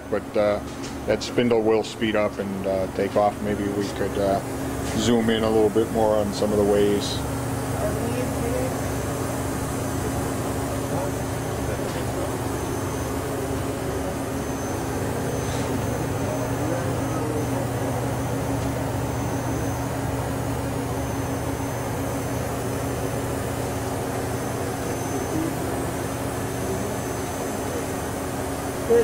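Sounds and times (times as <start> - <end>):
machine mechanical hum: 0.0 - 29.0.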